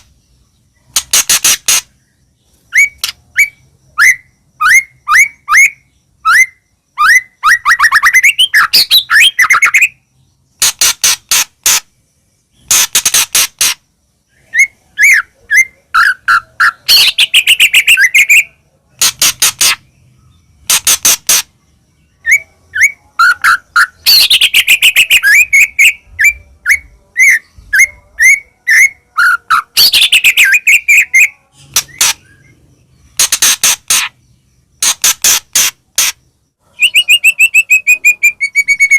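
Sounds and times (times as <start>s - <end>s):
bird singing rapid chirps and trills: 0.0s - 38.9s.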